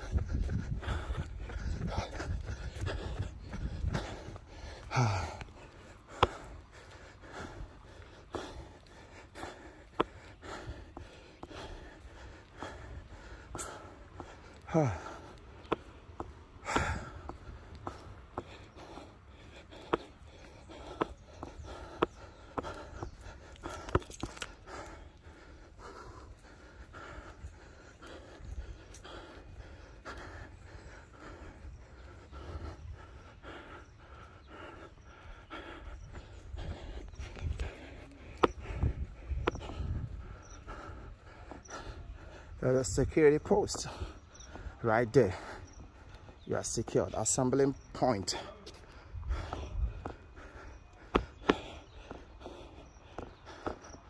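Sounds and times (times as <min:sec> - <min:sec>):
person breathing: 0:00.0 - 0:42.6, 0:47.8 - 0:54.0
low wind rumble on microphone: 0:00.0 - 0:44.8, 0:48.9 - 0:53.6
footsteps on paving: 0:00.0 - 0:54.0
person panting: 0:00.0 - 0:54.0.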